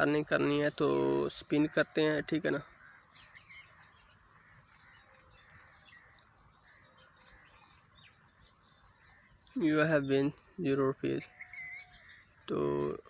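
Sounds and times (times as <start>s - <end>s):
faint bird chirps: 0.0s - 13.0s
insects trilling: 0.0s - 13.0s.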